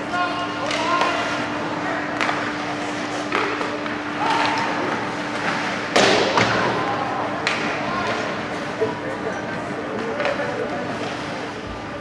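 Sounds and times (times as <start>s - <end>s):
distant crowd voices: 0.0s - 12.0s.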